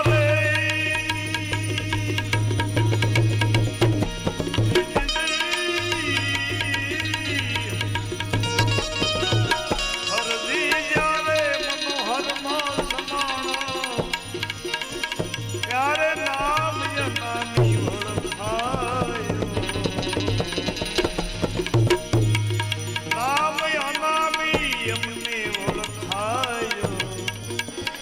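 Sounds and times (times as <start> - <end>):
tabla rhythm: 0.0 - 28.0.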